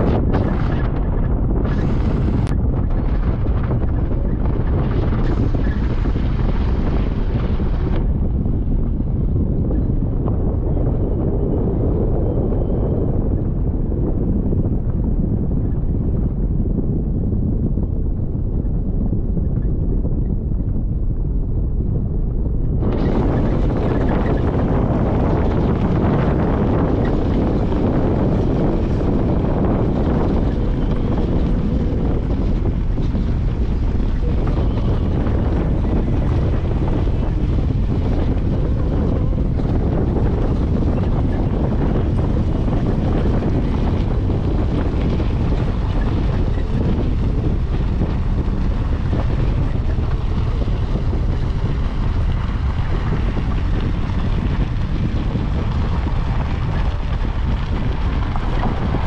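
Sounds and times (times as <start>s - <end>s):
car driving on dirt road: 0.0s - 59.0s
wind buffeting microphone: 0.0s - 59.0s.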